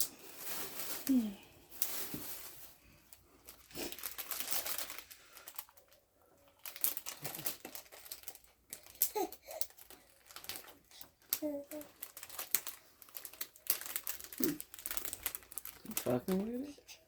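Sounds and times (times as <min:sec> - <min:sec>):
plastic wrapper crinkling: 0:00.0 - 0:17.0.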